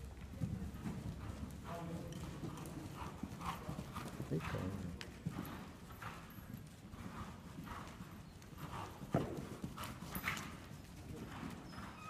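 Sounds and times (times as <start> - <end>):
horse hoofbeats on sand: 0.0 - 12.0.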